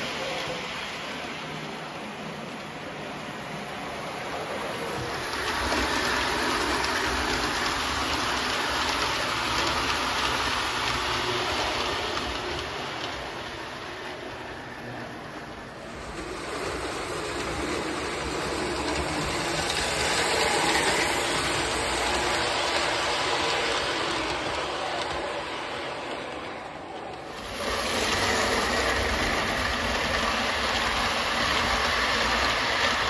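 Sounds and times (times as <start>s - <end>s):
model train wheels rumbling on rail: 0.0s - 33.0s.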